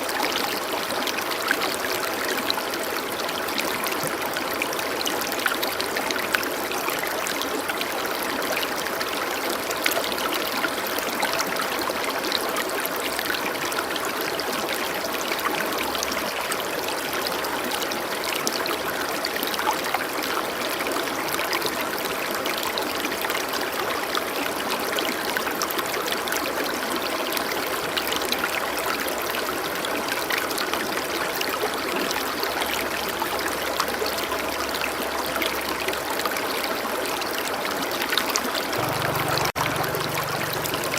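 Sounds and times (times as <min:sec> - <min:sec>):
running water with splashes: 0:00.0 - 0:40.9.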